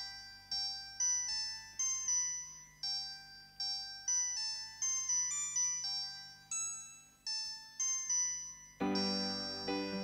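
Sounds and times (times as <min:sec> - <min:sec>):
bell-like chime melody: 0:00.0 - 0:10.0.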